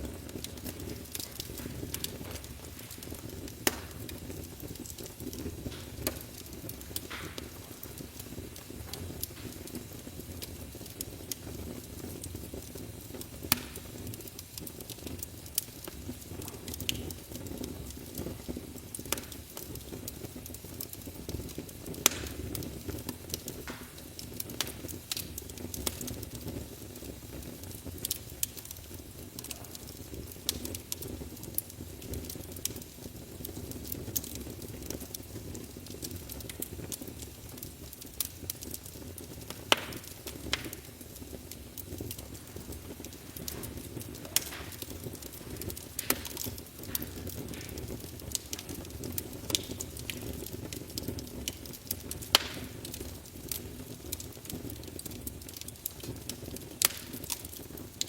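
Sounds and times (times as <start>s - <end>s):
fire crackling: 0.0s - 58.0s
fire flames rumbling: 0.0s - 58.0s
sharp fire pops: 0.0s - 58.0s.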